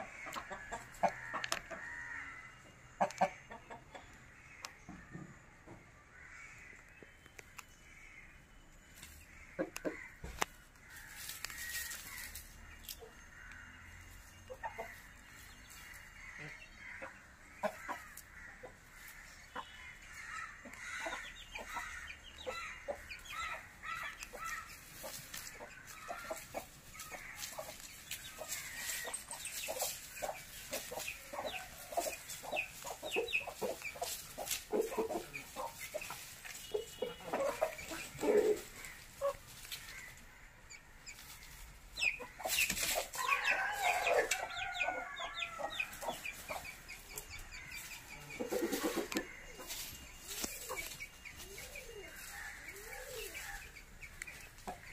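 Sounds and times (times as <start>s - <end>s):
chickens clucking: 0.0s - 6.0s, 9.0s - 10.5s, 11.1s - 54.9s.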